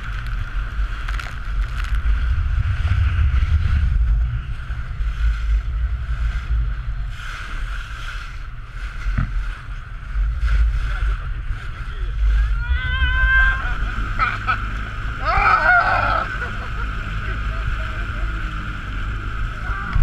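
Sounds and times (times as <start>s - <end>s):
outboard motor running: 0.0s - 20.0s
water splashing against hull: 0.0s - 20.0s
wind buffeting microphone: 0.0s - 20.0s.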